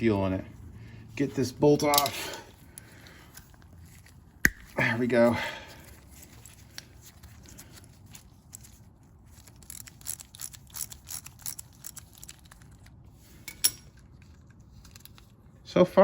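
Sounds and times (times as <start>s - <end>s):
hands handling small parts: 1.2s - 5.1s, 5.7s - 15.6s.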